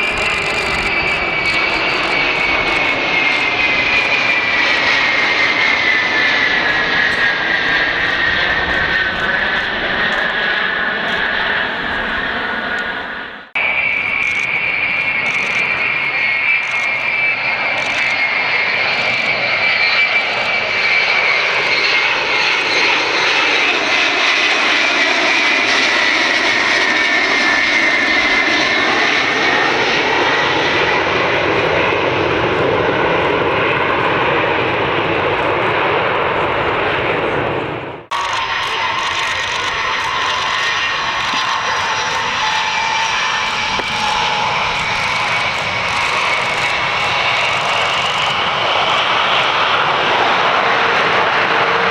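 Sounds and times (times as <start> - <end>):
jet engines roaring with whine: 0.0 - 51.9.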